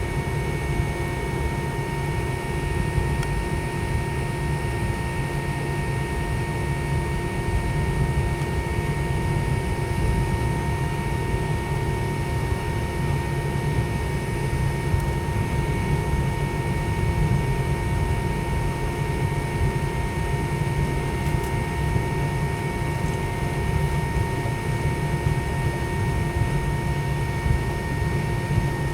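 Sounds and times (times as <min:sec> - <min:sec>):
aircraft cabin air-conditioning hum: 0:00.0 - 0:28.9.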